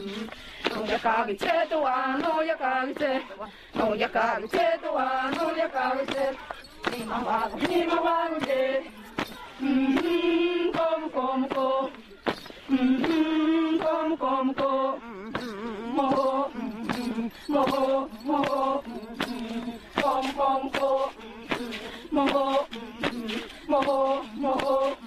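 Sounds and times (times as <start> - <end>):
women chanting: 0.0 - 25.0.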